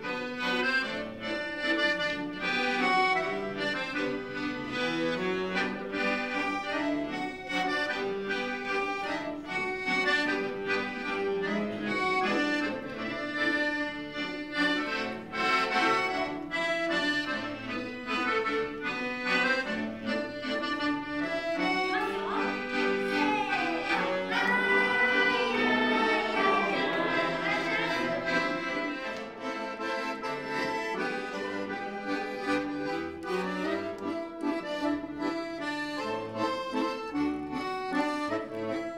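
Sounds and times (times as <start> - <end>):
accordion melody: 0.0 - 38.9.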